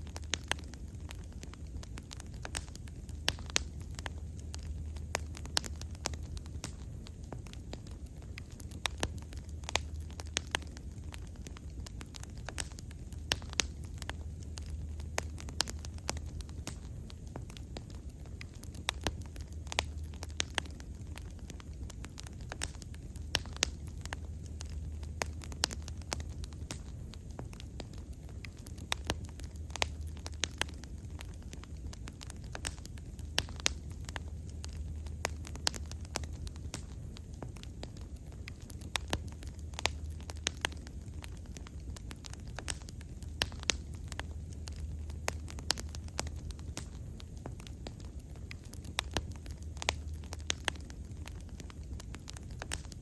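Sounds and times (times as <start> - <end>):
burning wood popping and snapping: 0.0 - 53.0
low rumble of flames: 0.0 - 53.0.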